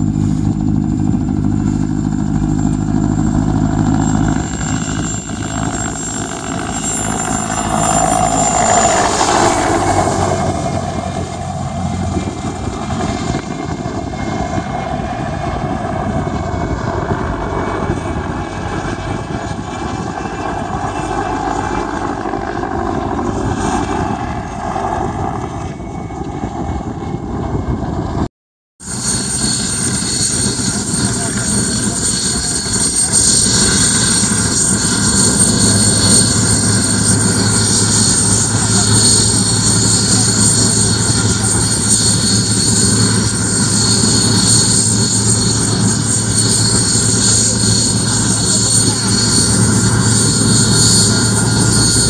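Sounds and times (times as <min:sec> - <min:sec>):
helicopter flying: 0:00.0 - 0:52.0.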